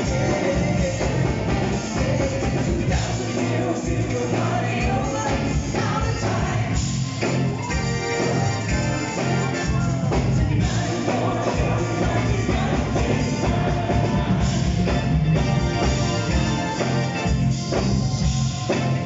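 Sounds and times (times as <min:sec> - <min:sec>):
electric guitars: 0:00.0 - 0:19.0
live rock band playing: 0:00.0 - 0:19.0.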